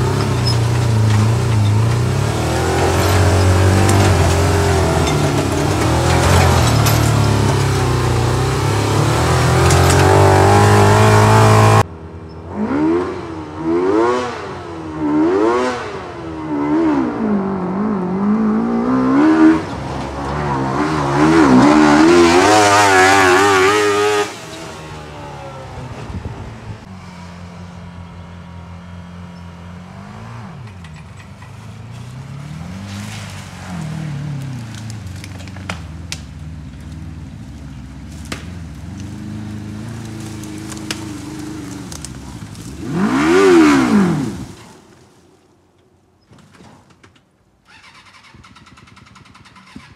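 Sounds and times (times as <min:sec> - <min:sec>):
motorcycle engine revving: 0:00.0 - 0:44.8, 0:47.7 - 0:49.9.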